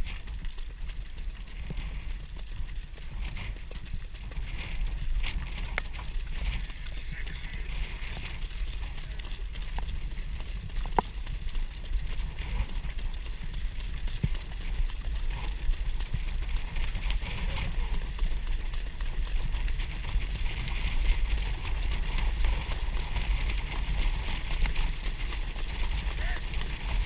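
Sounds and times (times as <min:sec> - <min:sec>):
horse hoofbeats on dirt: 0:00.0 - 0:27.0
wind rumbling on microphone: 0:00.0 - 0:27.0.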